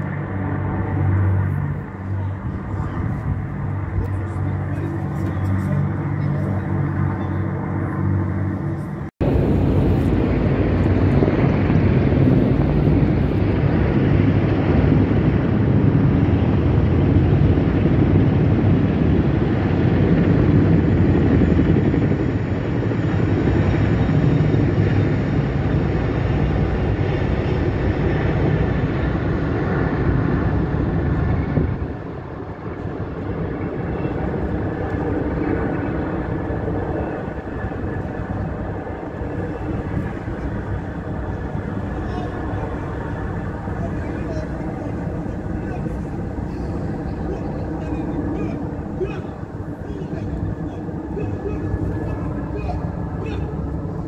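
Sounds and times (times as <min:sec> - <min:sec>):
low-flying aircraft engine rumble: 0:00.0 - 0:54.0.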